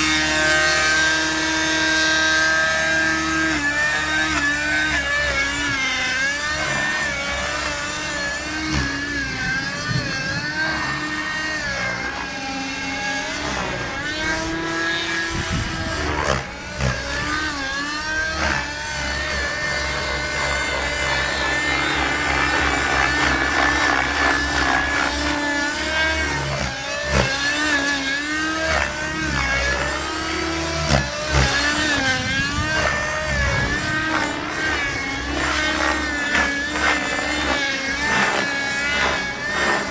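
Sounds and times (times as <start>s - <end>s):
model helicopter engine and rotor: 0.0s - 39.9s.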